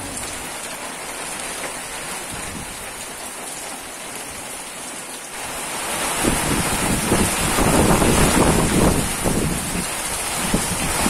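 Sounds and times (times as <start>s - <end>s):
heavy rain on metal roof: 0.0s - 11.0s.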